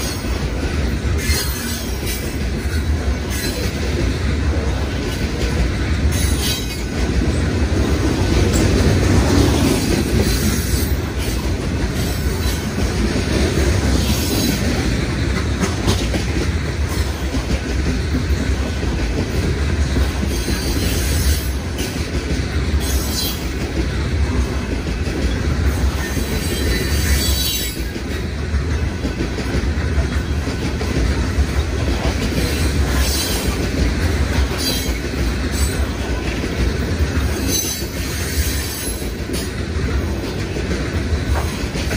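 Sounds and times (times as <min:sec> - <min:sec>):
rail clicks: 0:00.0 - 0:41.9
rumble of train wheels on rails: 0:00.0 - 0:41.9.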